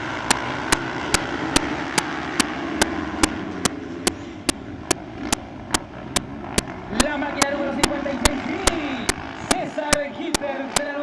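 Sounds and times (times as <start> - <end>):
motorcycle engines running: 0.0 - 11.0
repeating sharp click: 0.2 - 3.4, 4.0 - 10.9.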